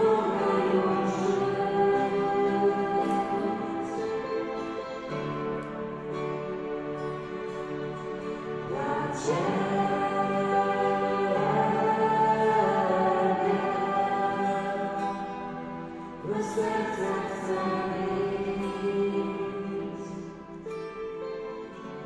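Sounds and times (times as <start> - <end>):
voices singing worship song: 0.0 - 6.0, 7.7 - 20.8
instrumental accompaniment: 0.0 - 22.0.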